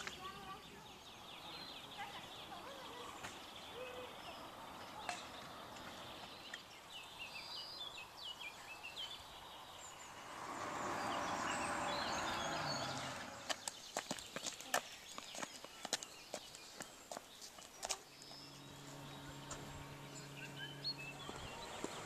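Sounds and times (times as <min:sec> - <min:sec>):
birds chirping and singing: 0:00.0 - 0:22.0.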